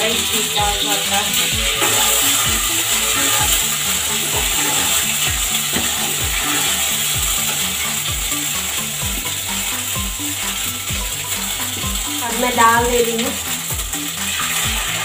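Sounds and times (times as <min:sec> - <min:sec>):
background music with steady beat: 0:00.0 - 0:15.0
paste sizzling in hot oil: 0:00.0 - 0:15.0.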